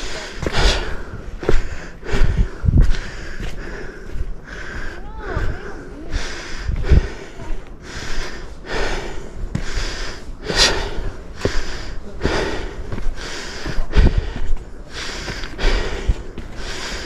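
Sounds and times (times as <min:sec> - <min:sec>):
footsteps on stone: 0:00.0 - 0:17.0
heavy breathing: 0:00.0 - 0:17.0.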